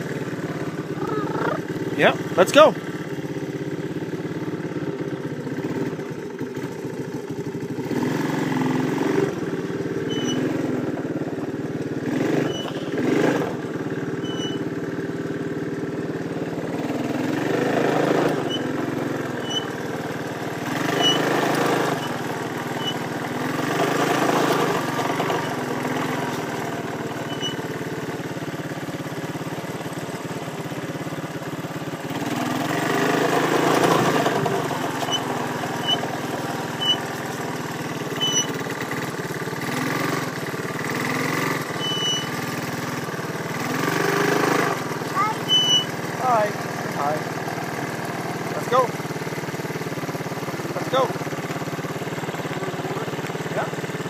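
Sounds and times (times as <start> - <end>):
engine revving near idle: 0.0 - 54.0.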